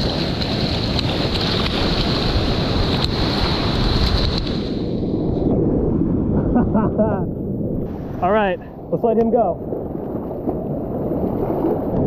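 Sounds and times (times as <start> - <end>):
surf washing up beach: 0.0 - 5.3, 6.3 - 12.0
wind buffeting microphone: 0.0 - 12.0.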